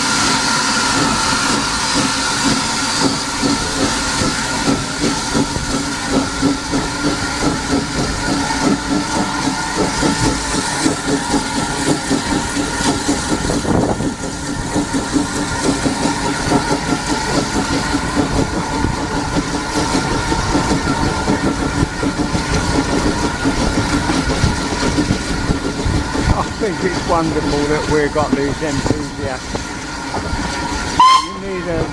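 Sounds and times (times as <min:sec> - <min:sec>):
fast even train rattle: 0:00.0 - 0:31.9
train engine hum: 0:00.0 - 0:31.9.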